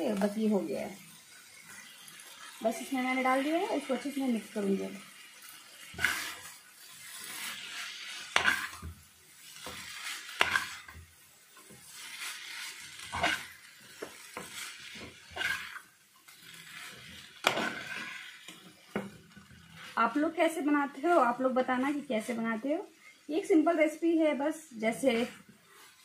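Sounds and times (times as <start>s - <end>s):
spatula scraping frying pan: 1.1s - 4.2s, 5.0s - 22.4s, 24.9s - 26.0s.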